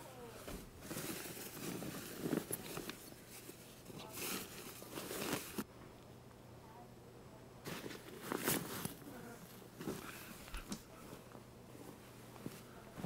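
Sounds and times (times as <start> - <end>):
clothes rustling: 0.2 - 5.7, 7.6 - 13.0.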